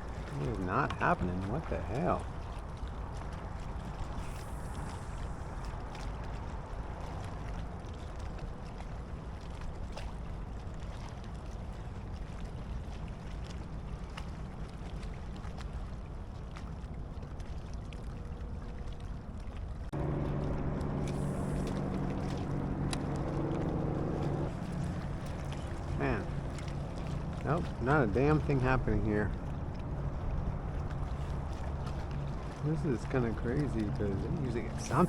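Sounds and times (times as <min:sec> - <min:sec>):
wind and water noise: 0:00.0 - 0:35.0.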